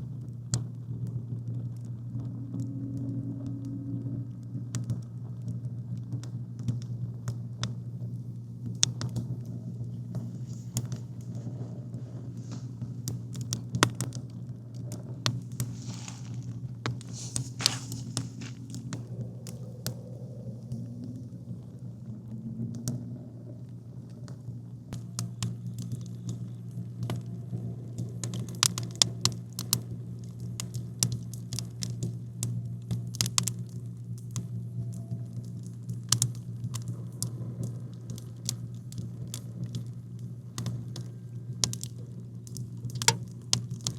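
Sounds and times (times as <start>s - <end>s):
campfire crackling: 0.0s - 43.9s
low steady hum: 0.0s - 43.9s.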